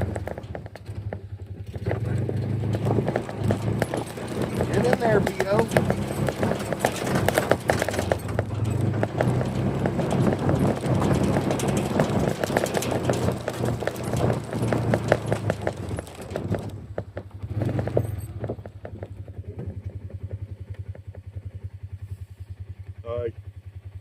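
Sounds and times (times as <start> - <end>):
hooves clattering on hard ground: 0.0 - 21.3
engine running: 0.0 - 24.0.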